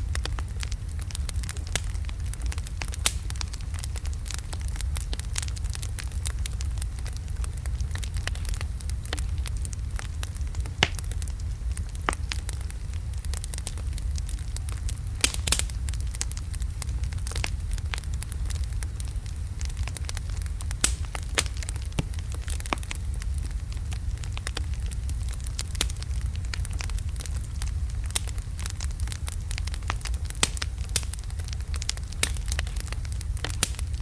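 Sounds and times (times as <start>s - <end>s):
wood fire burning: 0.0s - 34.0s.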